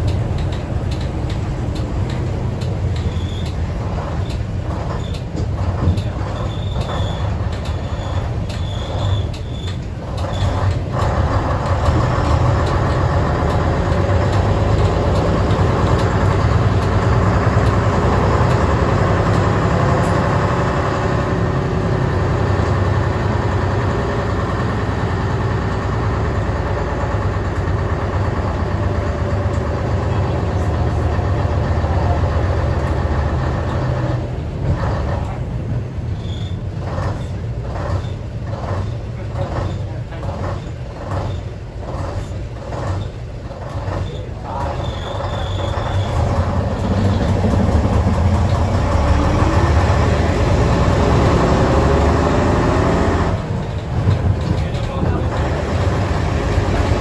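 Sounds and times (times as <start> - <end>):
bus diesel engine: 0.0 - 57.0
road and body rattle: 0.0 - 57.0.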